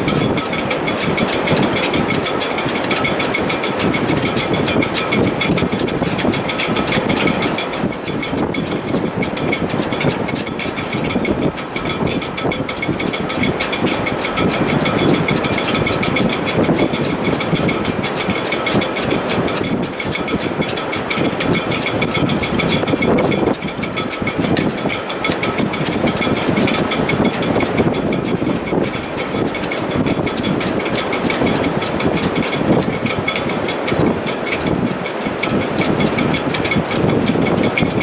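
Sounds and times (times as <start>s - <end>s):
strong wind in rigging: 0.0s - 38.0s.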